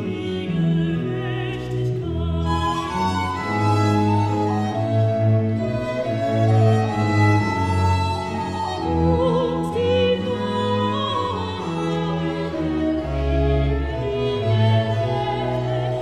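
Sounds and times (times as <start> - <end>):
string ensemble with organ: 0.0 - 16.0.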